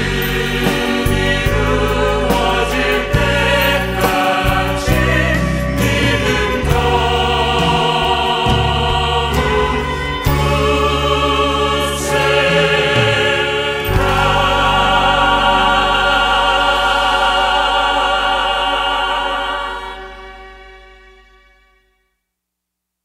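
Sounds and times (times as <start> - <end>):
choir singing: 0.0 - 21.4
instrumental accompaniment: 0.0 - 22.0.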